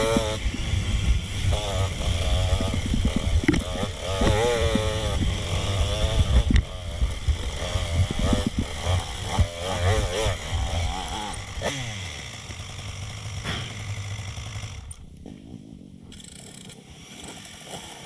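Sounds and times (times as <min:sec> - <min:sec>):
dirt bike engine revving: 0:00.0 - 0:15.2.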